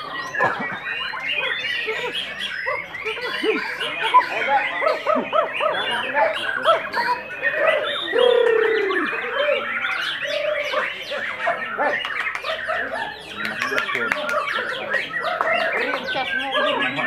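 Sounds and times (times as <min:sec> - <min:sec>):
chorus of other birds: 0:00.0 - 0:17.0.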